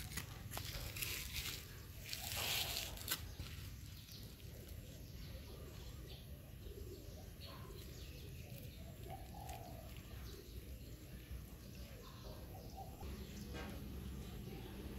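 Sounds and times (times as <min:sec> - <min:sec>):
soft bird calls: 0:00.6 - 0:14.9.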